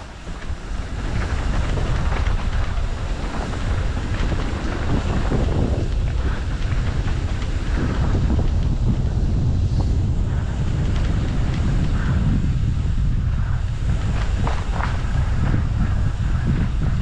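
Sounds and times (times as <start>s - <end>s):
bike rattling over rough ground: 0.0s - 17.0s
wind buffeting microphone: 0.0s - 17.0s.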